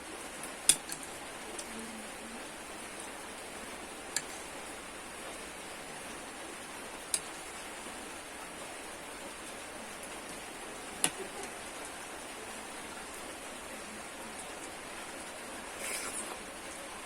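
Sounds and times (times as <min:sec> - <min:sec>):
steady hissing noise: 0:00.0 - 0:17.0.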